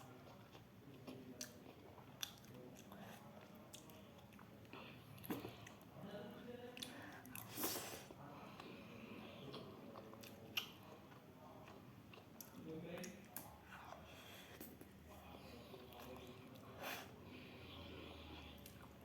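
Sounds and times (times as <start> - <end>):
person chewing food: 0.0 - 5.9, 6.8 - 19.0.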